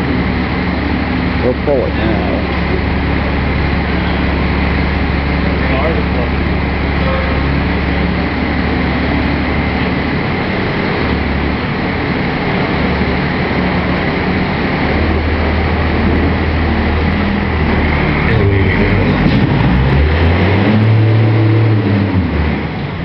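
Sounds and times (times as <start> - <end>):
truck engine under heavy load: 0.0 - 23.0.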